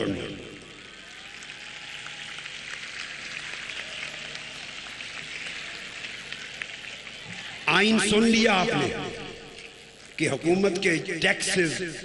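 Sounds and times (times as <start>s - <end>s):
crowd cheering and clapping: 0.0s - 10.1s.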